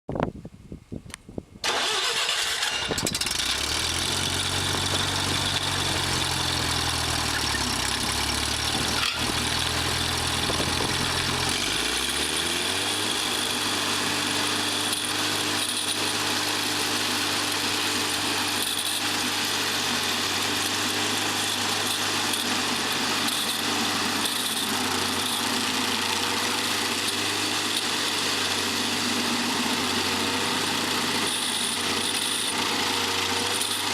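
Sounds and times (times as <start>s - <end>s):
stump grinder engine revving: 1.6s - 33.9s.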